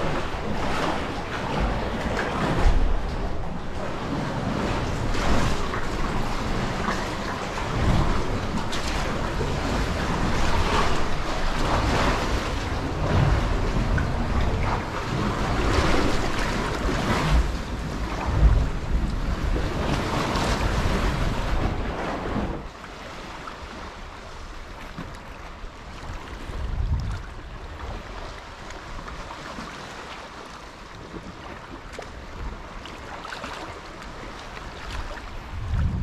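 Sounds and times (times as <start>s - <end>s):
wind buffeting microphone: 0.0s - 22.8s, 23.7s - 29.2s, 34.2s - 36.0s
paddle splashes: 0.0s - 36.0s
water lapping around a kayak: 0.0s - 36.0s.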